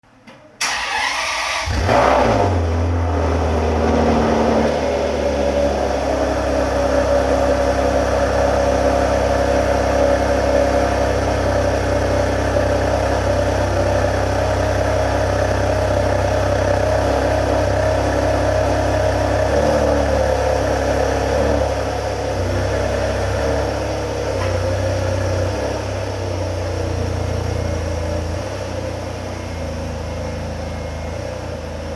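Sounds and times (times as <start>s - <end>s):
car engine exhaust idling: 2.5s - 31.9s.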